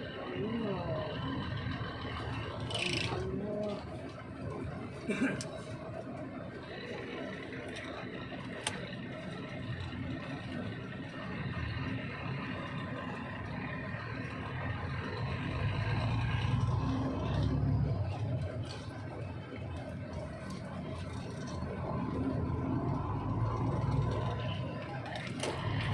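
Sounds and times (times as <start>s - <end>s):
heavy vehicle engine rumbling: 0.0s - 25.9s.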